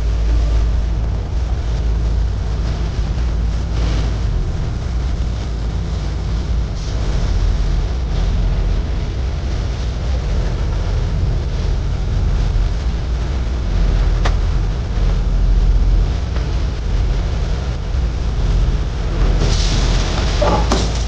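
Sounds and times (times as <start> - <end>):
torch flame roaring: 0.0 - 21.0.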